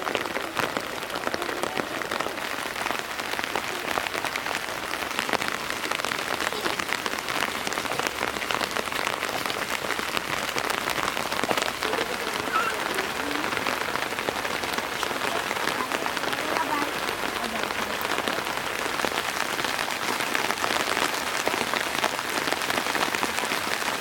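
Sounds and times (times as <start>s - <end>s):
rain falling: 0.0s - 24.0s
raindrops striking: 0.0s - 24.0s.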